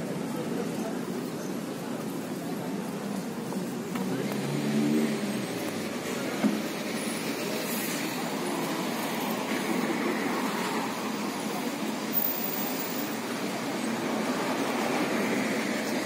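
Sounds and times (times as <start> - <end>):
road traffic from passing cars: 0.0 - 16.0.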